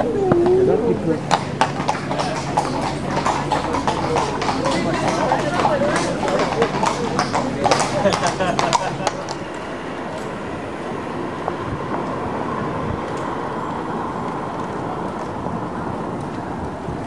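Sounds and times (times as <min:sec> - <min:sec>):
busy street hubbub: 0:00.0 - 0:17.0.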